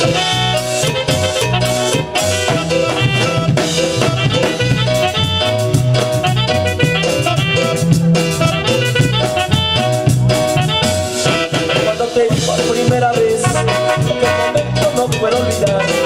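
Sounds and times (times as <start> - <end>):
live band playing latin dance music: 0.0 - 16.0.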